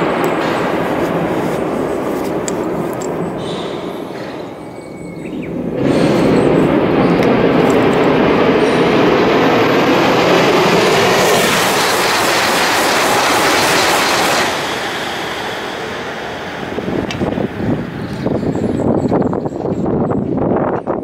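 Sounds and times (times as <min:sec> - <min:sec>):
train passing at high speed: 0:00.0 - 0:20.6.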